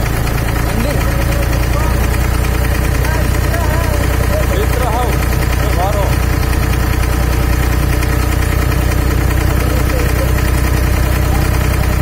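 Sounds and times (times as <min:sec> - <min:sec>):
boat diesel engine throbbing: 0:00.0 - 0:12.0.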